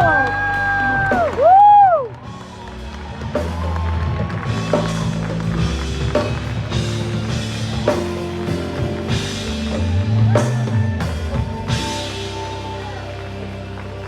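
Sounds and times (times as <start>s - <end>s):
drum kit: 0.0s - 14.0s.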